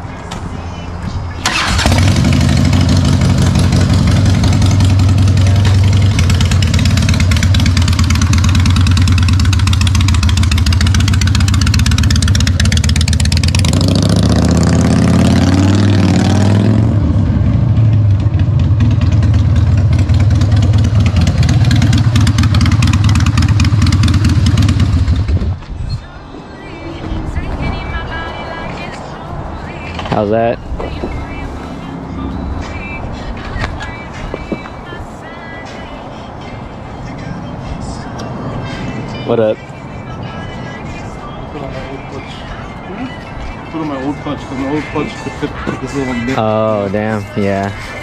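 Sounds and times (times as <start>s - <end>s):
motorcycle engine idling and revving: 0.8s - 35.0s, 35.6s - 48.0s.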